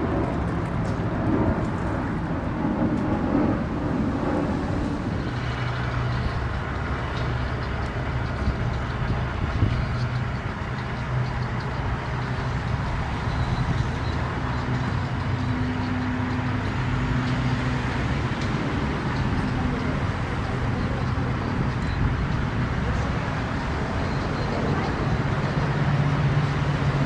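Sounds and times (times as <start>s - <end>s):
engines idling with low hum: 0.0s - 27.0s.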